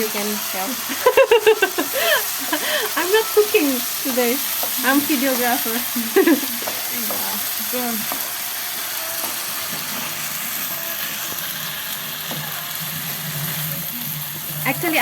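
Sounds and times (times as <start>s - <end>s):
rice frying in butter: 0.0s - 15.0s.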